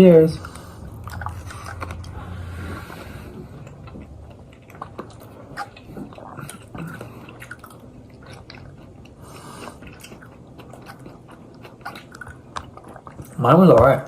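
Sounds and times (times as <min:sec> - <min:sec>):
people chewing noodles: 0:00.3 - 0:14.0.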